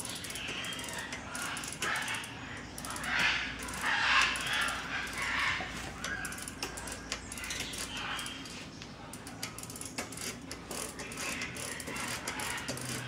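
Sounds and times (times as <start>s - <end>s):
bicycle ratchet clicking: 0.0s - 13.0s.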